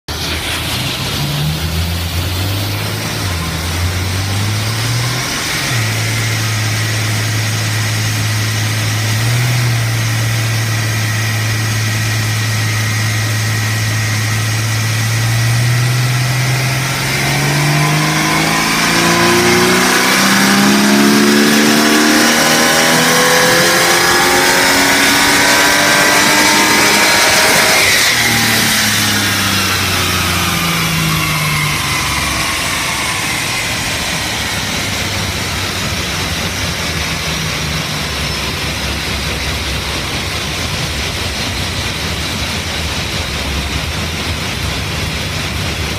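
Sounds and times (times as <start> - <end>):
car engine revving on dynamometer: 0.1 - 45.9.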